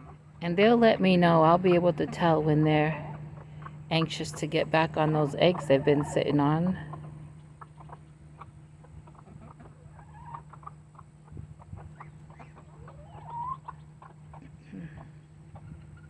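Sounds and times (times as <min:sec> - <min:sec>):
hens clucking: 0:00.0 - 0:16.0
steady low hum: 0:00.0 - 0:16.0.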